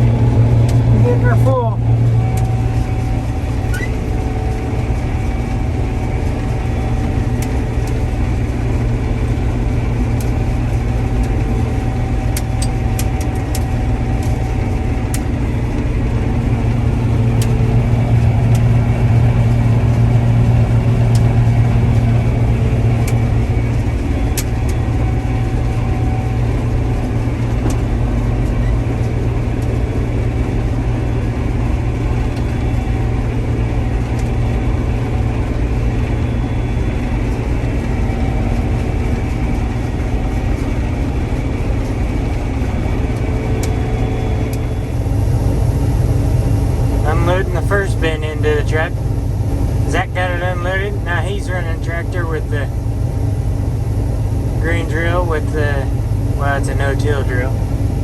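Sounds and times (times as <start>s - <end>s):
combine harvester engine drone: 0.0s - 58.0s
machinery whine: 0.0s - 58.0s.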